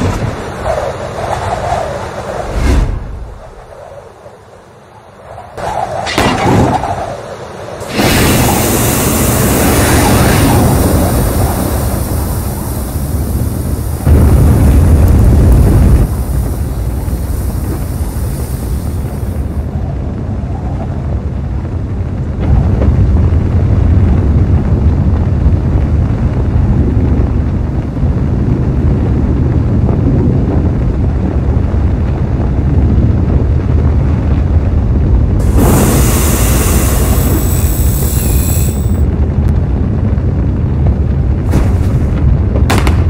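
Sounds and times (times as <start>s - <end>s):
rocket thruster rumble: 0.0s - 1.1s, 5.6s - 43.0s
windy rush: 0.0s - 43.0s.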